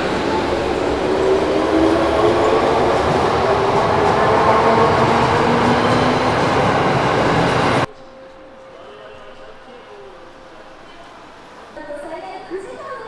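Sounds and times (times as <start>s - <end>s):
train rumbling on rails: 0.0s - 11.8s.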